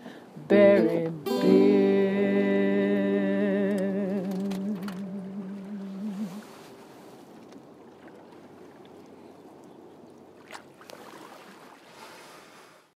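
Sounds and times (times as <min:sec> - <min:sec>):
water lapping and gurgling: 0:02.5 - 0:12.9.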